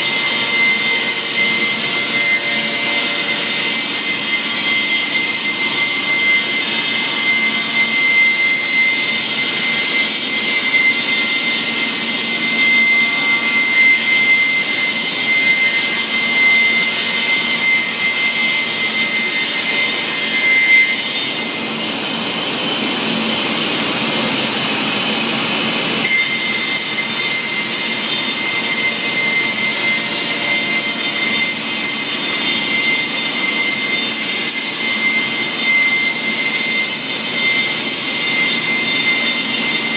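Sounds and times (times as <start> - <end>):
high-pitched machine whine: 0.0 - 39.9.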